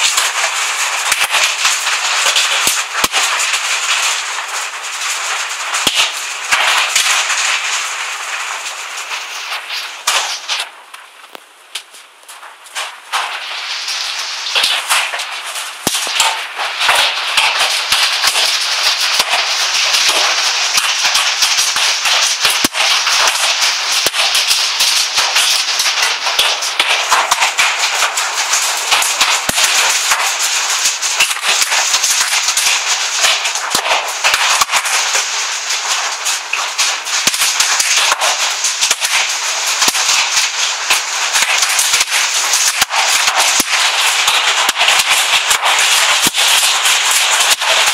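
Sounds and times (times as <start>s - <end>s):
hail rattling on hard surfaces: 0.0s - 47.9s
sharp hailstone cracks: 0.0s - 47.9s.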